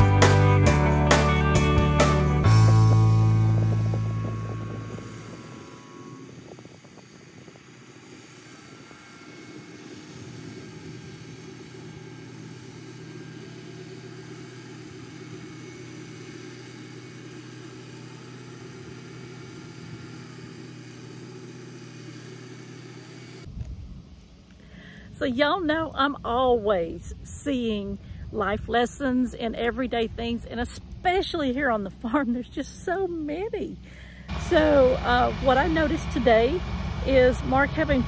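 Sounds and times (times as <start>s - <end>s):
distant tractor engine drone: 0.0s - 38.0s.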